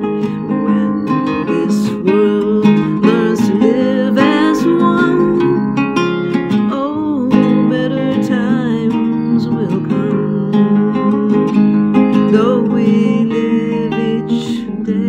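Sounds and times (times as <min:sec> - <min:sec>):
plucked harp guitar: 0:00.0 - 0:15.0
woman singing: 0:00.0 - 0:15.0.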